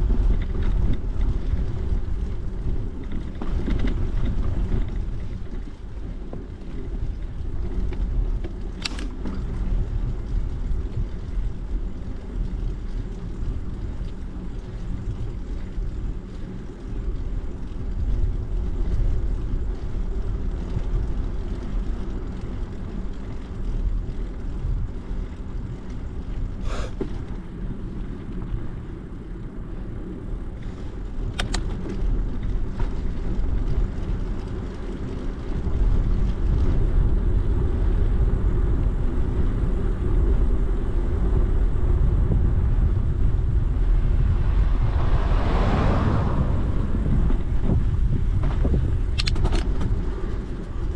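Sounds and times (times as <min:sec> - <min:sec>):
wind on microphone: 0:00.0 - 0:22.8, 0:29.9 - 0:50.9
bicycle rolling: 0:00.0 - 0:50.9.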